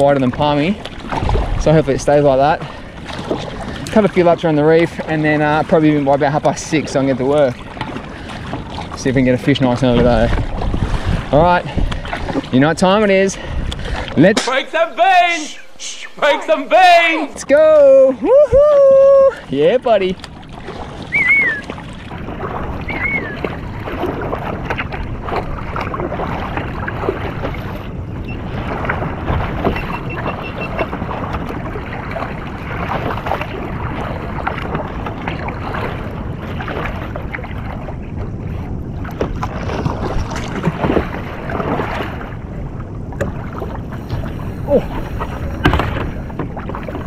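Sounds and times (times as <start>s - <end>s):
water splashing against kayak hull: 0.0s - 47.0s
wind buffeting microphone: 0.0s - 47.0s.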